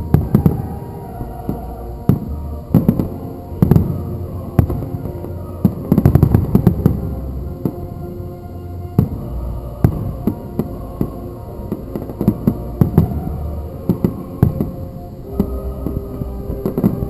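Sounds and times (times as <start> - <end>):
crackling fireworks reports: 0.0 - 17.0
fireworks bursting: 0.0 - 17.0.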